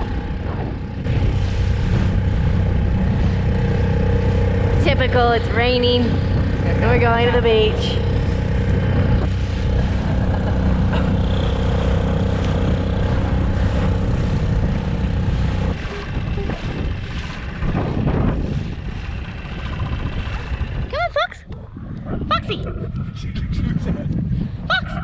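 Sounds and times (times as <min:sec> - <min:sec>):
outboard motor running: 0:00.0 - 0:21.5.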